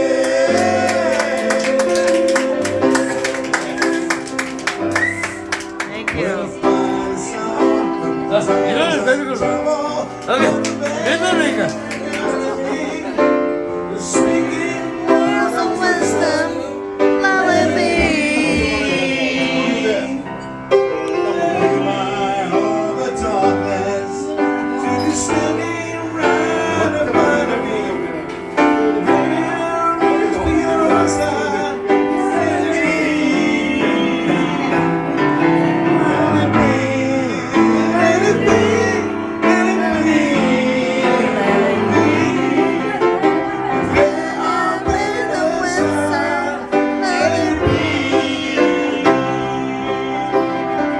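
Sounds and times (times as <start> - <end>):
keyboard accompaniment: 0.0 - 50.9
person singing: 0.0 - 50.9.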